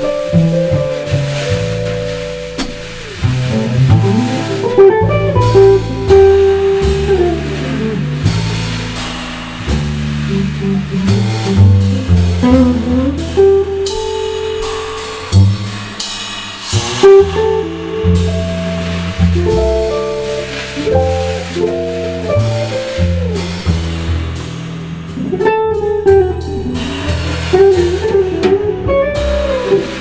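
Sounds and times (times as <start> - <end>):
guitar with sliding notes: 0.0 - 15.8, 16.8 - 30.0
bass line: 0.0 - 30.0
drum kit: 0.0 - 30.0.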